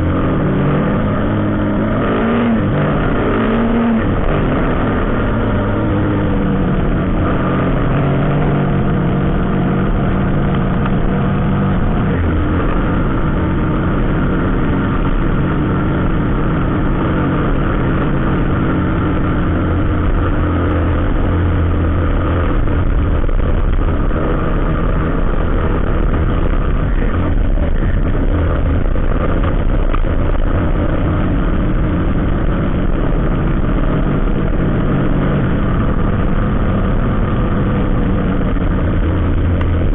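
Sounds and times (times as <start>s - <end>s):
deep engine note: 0.0s - 39.9s
traffic engines running: 0.0s - 39.9s.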